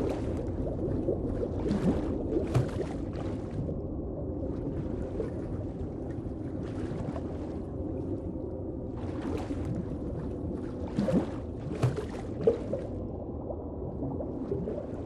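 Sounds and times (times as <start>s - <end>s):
water sloshing: 0.0s - 13.1s
muffled underwater churning: 0.0s - 15.0s.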